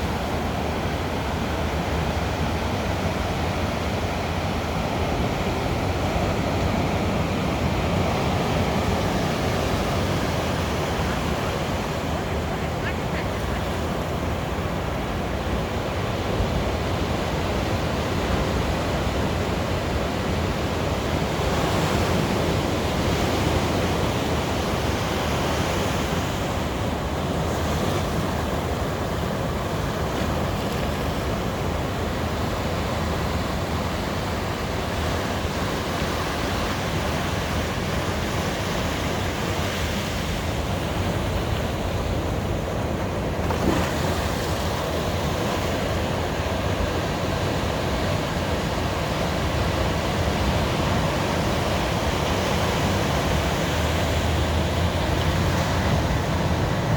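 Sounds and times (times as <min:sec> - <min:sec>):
sea waves breaking on beach: 0:00.0 - 0:56.9.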